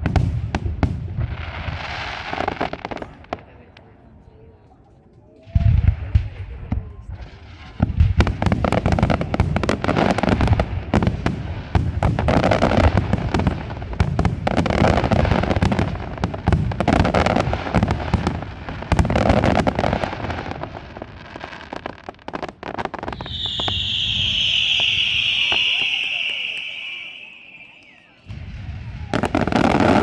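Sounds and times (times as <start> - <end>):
fireworks crackling: 0.0 - 3.9, 5.4 - 30.0.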